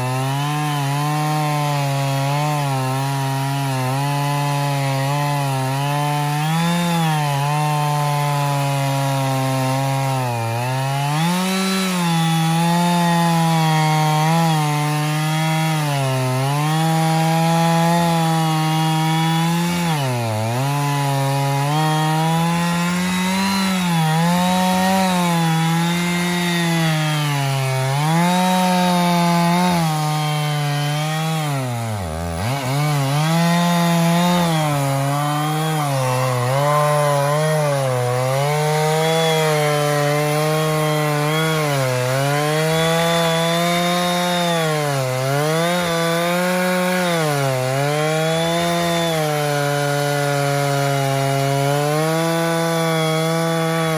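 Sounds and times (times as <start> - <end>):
chainsaw cutting log: 0.0 - 53.9.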